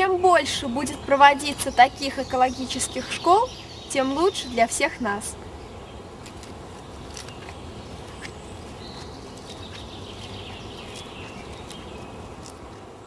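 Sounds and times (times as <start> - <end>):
high thin birdsong: 0.0 - 13.0.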